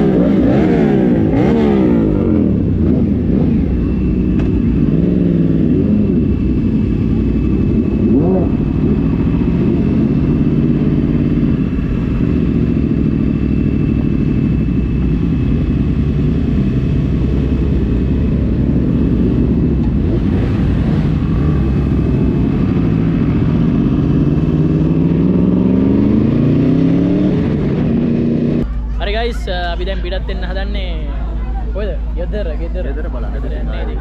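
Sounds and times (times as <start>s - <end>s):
motorcycle engine accelerating: 0.0s - 28.7s.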